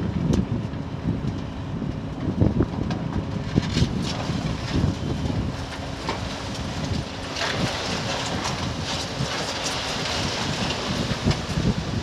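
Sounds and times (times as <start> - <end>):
diesel engine under load: 0.0 - 12.0
wind on microphone: 0.0 - 12.0.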